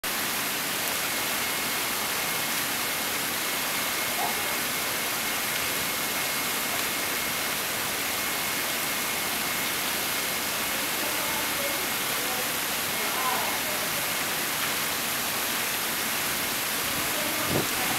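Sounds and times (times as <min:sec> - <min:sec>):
rushing pool water: 0:00.0 - 0:17.9.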